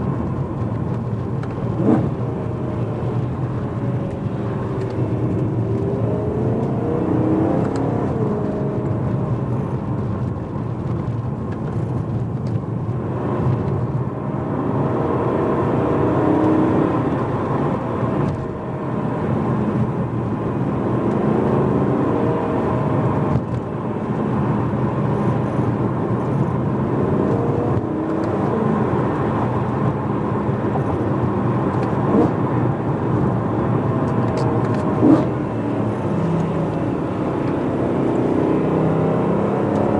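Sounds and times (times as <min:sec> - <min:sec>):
car engine revving in cabin: 0:00.0 - 0:39.9.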